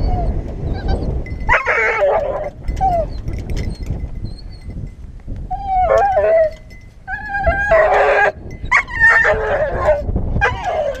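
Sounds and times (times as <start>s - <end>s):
dog whining and yelping: 0.0s - 4.6s, 5.5s - 11.0s.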